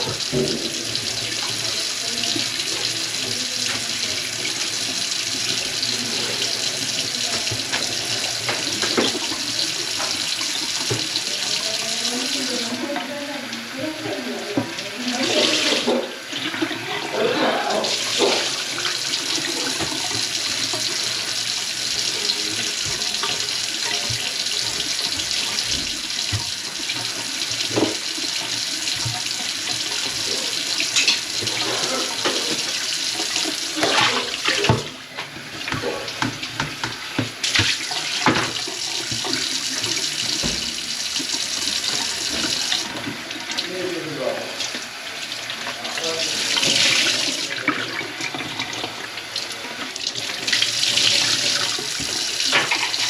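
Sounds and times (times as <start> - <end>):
faucet water running into sink: 0.0 - 53.0.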